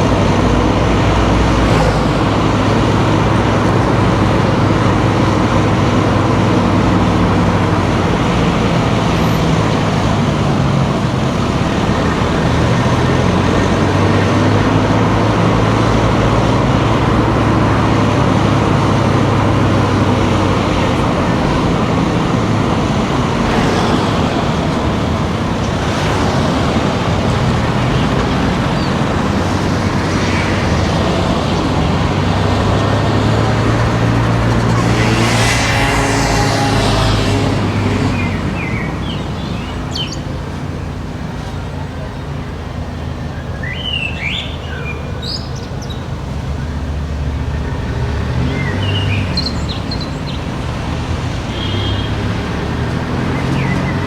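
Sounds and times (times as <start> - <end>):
car engine hum: 0.0 - 54.0
road noise: 0.0 - 54.0.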